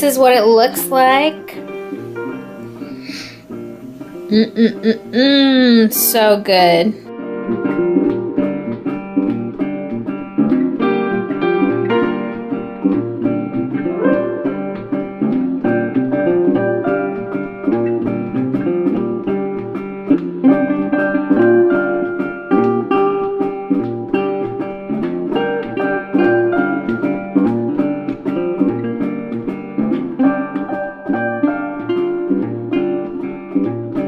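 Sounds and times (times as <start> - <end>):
plucked-string melody: 0.0 - 34.0.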